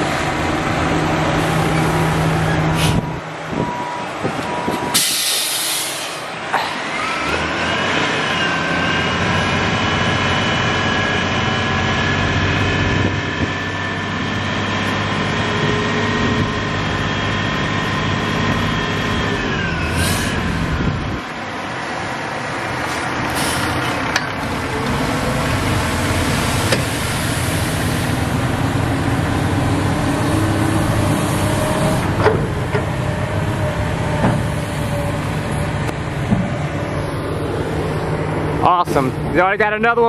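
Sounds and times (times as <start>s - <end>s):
heavy diesel engines running: 0.0s - 40.0s.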